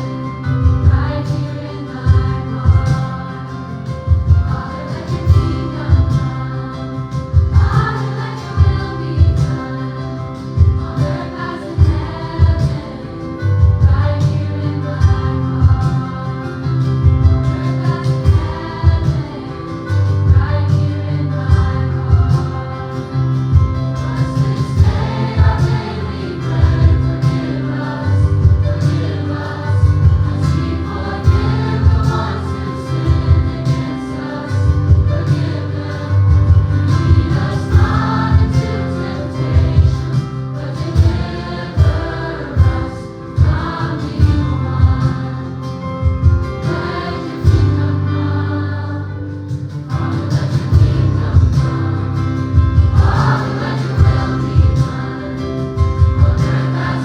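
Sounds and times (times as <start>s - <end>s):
steady drum beat: 0.0s - 48.5s, 49.3s - 57.0s
bass line: 0.0s - 57.0s
gospel choir singing: 0.0s - 57.0s.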